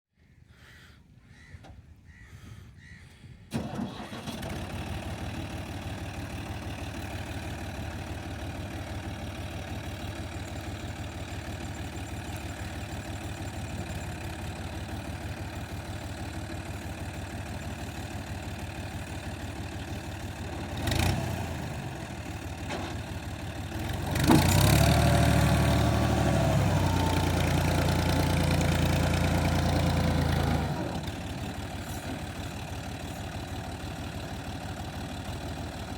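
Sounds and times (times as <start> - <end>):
tractor diesel engine: 3.5 - 35.9.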